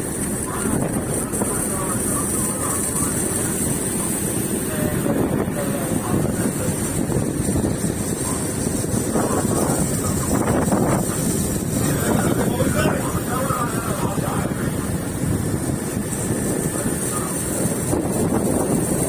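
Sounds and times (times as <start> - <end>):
boat engine running: 0.0 - 19.0
water rushing along hull: 0.0 - 19.0
wind buffeting microphone: 0.0 - 19.0.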